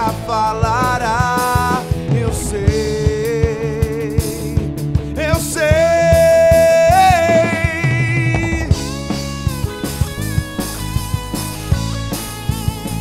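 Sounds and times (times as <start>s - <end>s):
bass guitar: 0.0s - 13.0s
drums: 0.0s - 13.0s
electric guitar lead bending note: 0.0s - 13.0s
keyboard: 0.0s - 13.0s.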